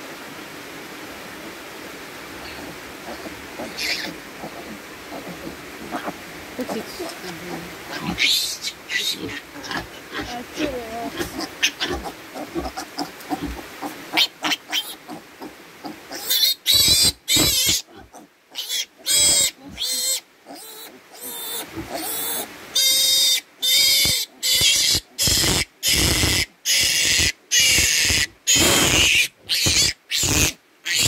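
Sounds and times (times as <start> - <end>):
piglet squealing: 3.1 - 6.8, 7.5 - 13.5, 14.1 - 15.2, 16.1 - 31.0.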